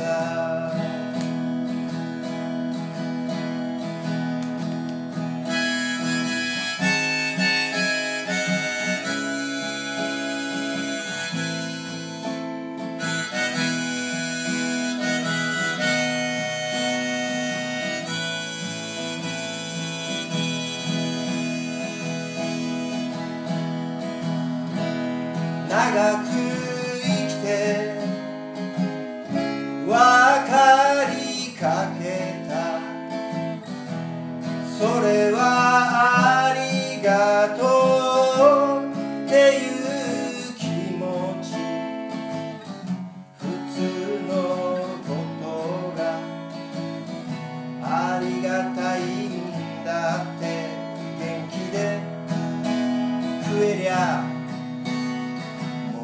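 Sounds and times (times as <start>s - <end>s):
acoustic guitar strumming: 0.0s - 56.0s
harmonica: 0.0s - 56.0s.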